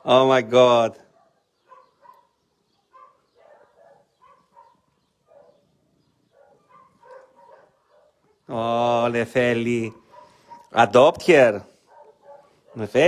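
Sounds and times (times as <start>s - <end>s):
distant dogs barking: 0.0s - 13.0s.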